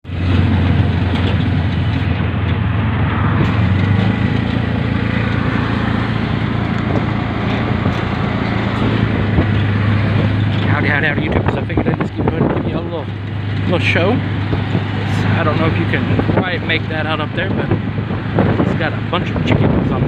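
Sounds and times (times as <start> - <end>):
road and traffic noise: 0.0 - 20.0
small vehicle engine droning: 0.0 - 20.0.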